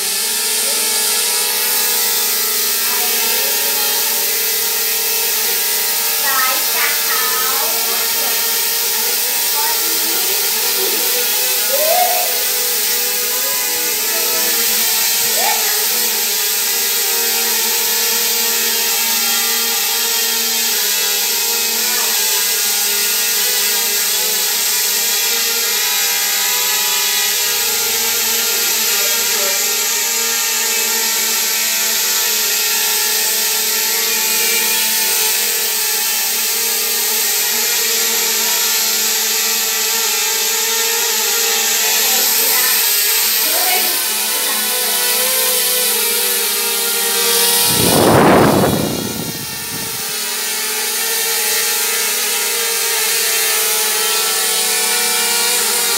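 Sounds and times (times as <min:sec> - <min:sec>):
drone propellers buzzing: 0:00.0 - 0:55.9.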